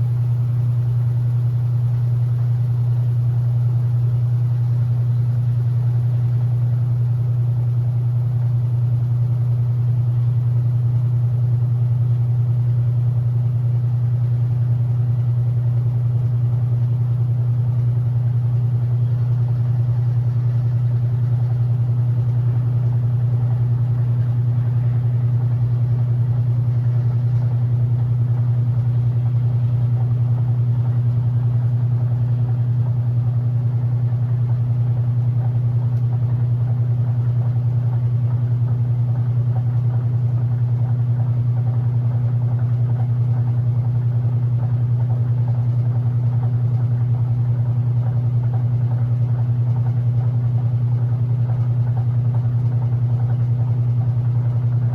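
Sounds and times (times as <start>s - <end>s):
washing machine humming: 0.0s - 54.9s.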